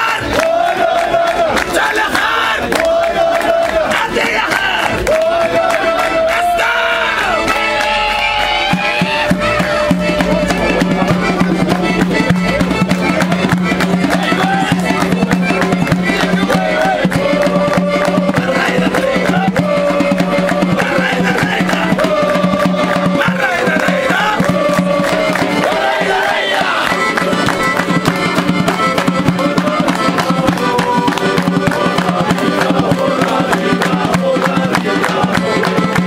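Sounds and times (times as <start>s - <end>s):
crowd clapping in time: 0.0s - 36.0s
lively dance music: 1.5s - 36.0s.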